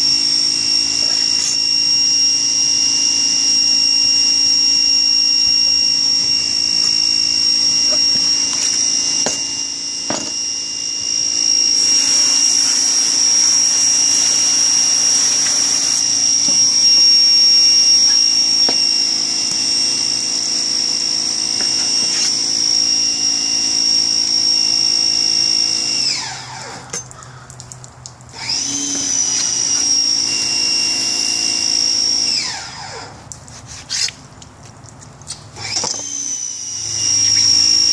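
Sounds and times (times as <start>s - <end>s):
small electric motor whining: 0.0s - 27.1s, 28.3s - 34.1s, 35.6s - 37.9s.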